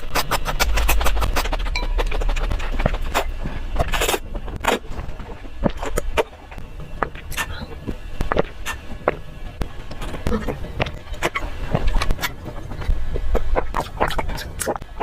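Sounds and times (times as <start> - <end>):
chewing crunches and smacks: 0.0 - 15.0
low rumble: 0.5 - 13.8.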